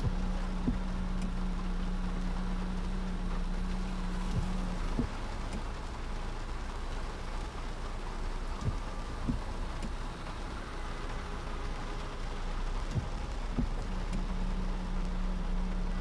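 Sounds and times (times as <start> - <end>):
low road rumble: 0.0 - 16.0
rain and wet tyre noise: 0.0 - 16.0.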